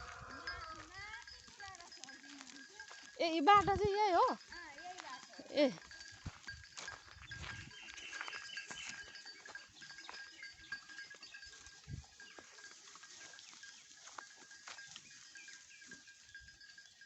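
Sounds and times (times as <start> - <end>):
hooves cracking twigs: 0.0 - 17.0.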